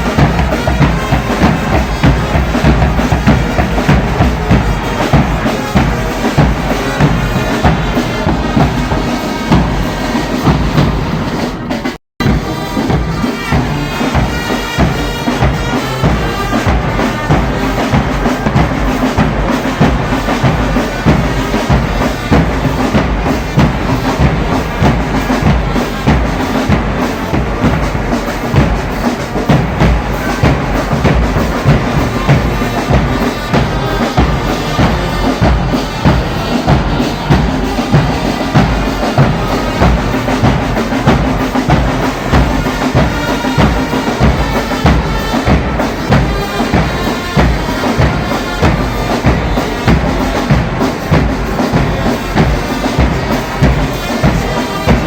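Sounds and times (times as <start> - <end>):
bass drum beat: 0.0 - 55.0
brass band playing: 0.0 - 55.0.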